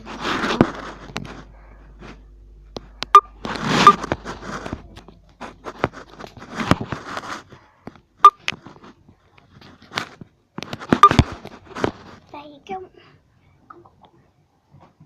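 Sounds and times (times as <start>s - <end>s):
rustling: 0.0s - 12.5s.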